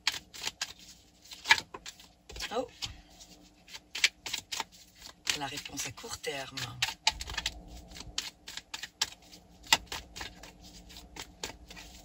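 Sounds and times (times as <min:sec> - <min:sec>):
cards being shuffled: 0:00.0 - 0:05.8, 0:06.5 - 0:12.0.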